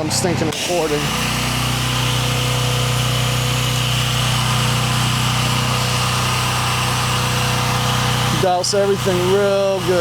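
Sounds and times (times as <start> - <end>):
pressure washer engine drone: 0.0 - 10.0
water spray hissing: 0.6 - 10.0.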